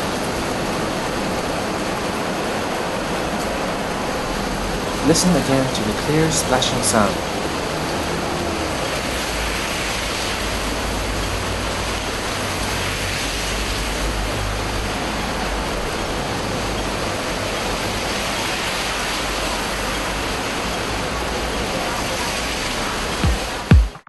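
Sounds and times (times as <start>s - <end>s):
rain hissing: 0.0s - 23.8s.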